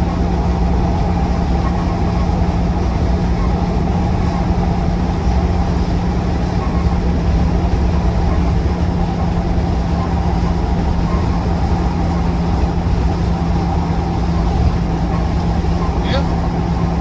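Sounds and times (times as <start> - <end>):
diesel engine drone inside cabin: 0.0 - 17.0
tyres on road: 0.0 - 17.0.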